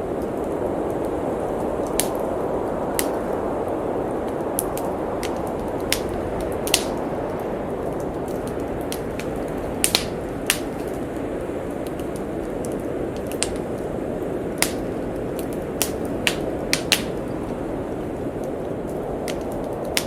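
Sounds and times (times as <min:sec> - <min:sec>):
snowstorm wind rushing: 0:00.0 - 0:20.0
wood fire crackling: 0:00.0 - 0:20.0.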